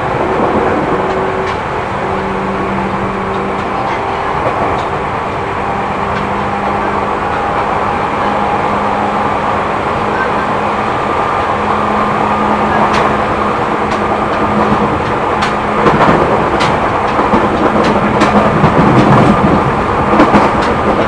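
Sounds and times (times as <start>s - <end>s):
train wheel and rail noise: 0.0s - 21.0s.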